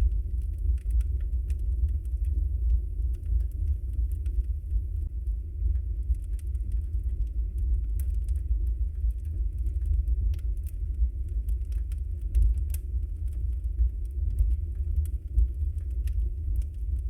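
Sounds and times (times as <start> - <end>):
crackles and pops of burning logs: 0.0 - 17.0
fire rumbling: 0.0 - 17.0.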